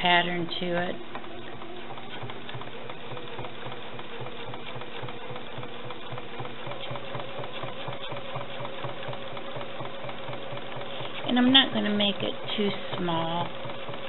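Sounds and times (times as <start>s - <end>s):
sewing machine stitching: 0.0s - 14.0s.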